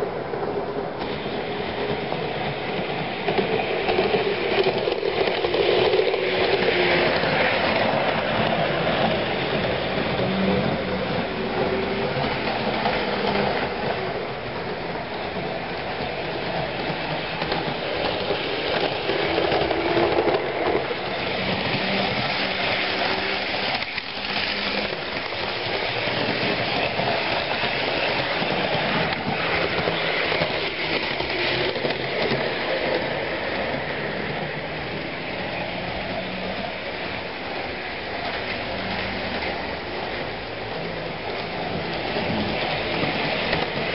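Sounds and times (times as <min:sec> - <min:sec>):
wheels rumbling on rails: 0:00.0 - 0:43.9.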